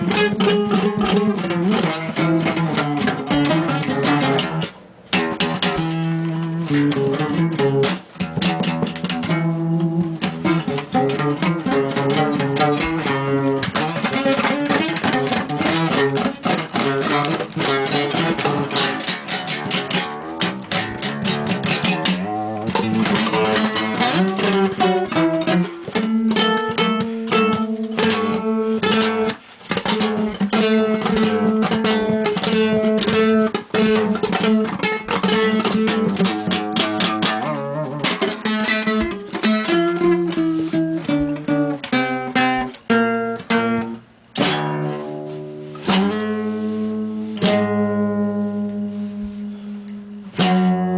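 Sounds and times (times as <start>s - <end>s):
acoustic guitar plucked: 0.0s - 50.9s.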